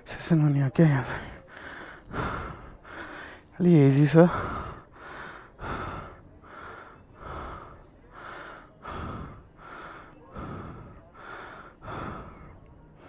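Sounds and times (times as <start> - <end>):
person breathing hard: 1.1 - 13.0.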